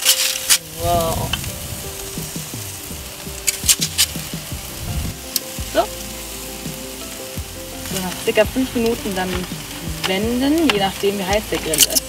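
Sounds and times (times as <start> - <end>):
sharp crackles: 0.0 - 12.0
squid sizzling on a grill: 0.0 - 12.0.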